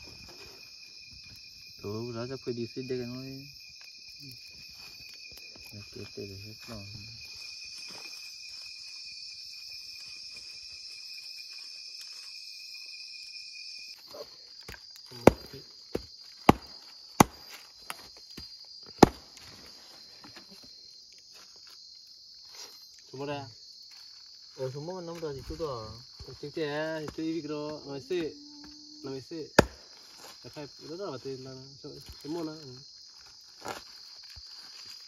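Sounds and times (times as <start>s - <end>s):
crickets chirring: 0.0s - 35.0s
low insect tone: 0.0s - 35.0s.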